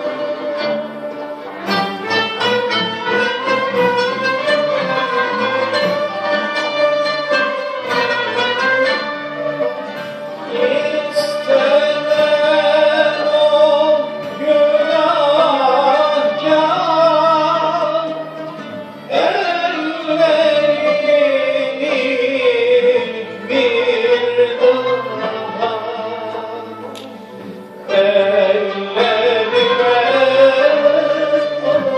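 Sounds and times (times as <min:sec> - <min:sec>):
plucked and bowed strings: 0:00.0 - 0:31.9.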